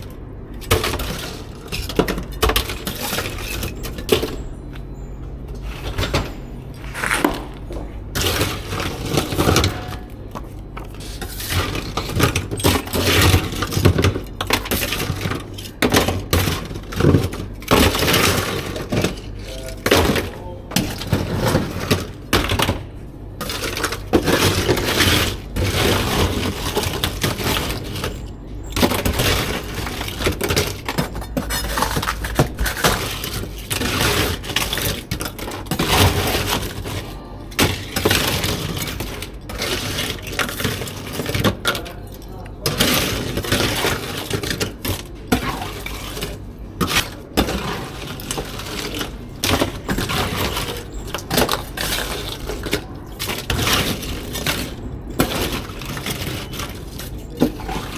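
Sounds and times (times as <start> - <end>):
hard objects clattering and cracking: 0.0 - 4.9, 5.5 - 57.9
steady low hum: 0.0 - 50.0.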